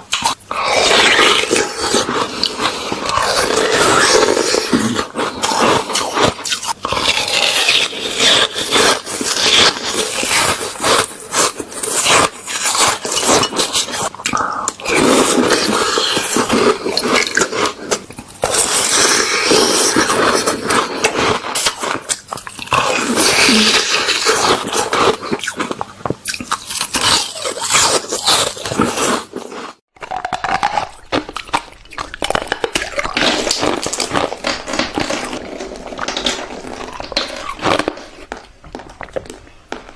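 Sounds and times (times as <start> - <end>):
crunching ice while chewing: 0.0 - 39.9.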